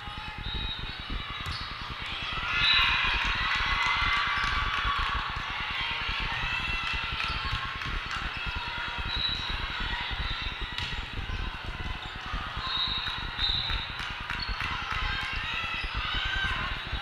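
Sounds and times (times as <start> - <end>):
murmur of voices: 0.0 - 17.0.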